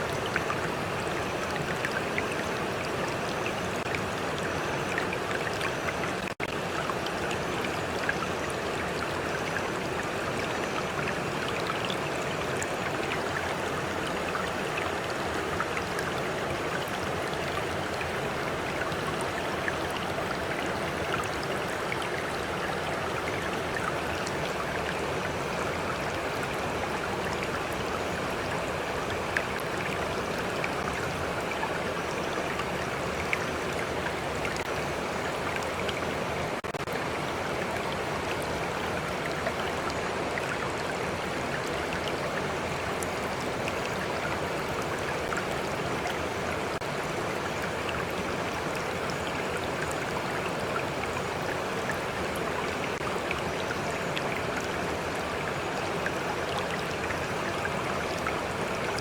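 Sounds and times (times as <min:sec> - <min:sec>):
water stream flowing: 0:00.0 - 0:59.0.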